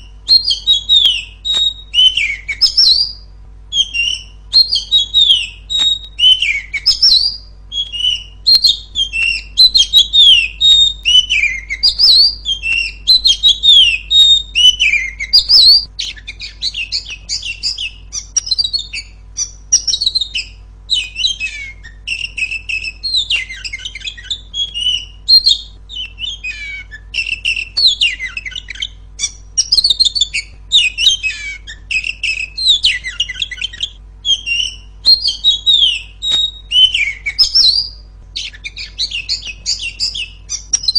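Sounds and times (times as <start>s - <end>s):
bird chattering: 0.0s - 40.9s
bird whistled song: 0.0s - 40.9s.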